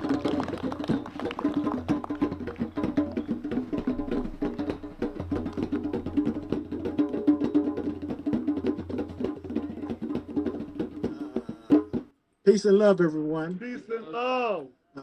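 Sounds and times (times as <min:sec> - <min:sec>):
music with rapid percussion: 0:00.0 - 0:12.1.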